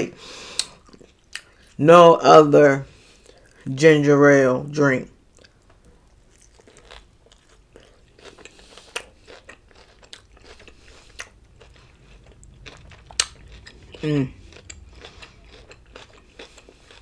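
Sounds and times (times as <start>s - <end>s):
person chewing with crunches: 0.4s - 1.8s, 2.9s - 3.7s, 5.3s - 17.0s.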